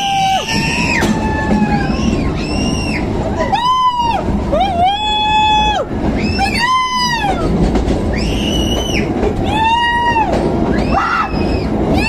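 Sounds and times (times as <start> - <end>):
passengers whooping: 0.0 - 12.0
train rumbling in tunnel: 0.0 - 12.0.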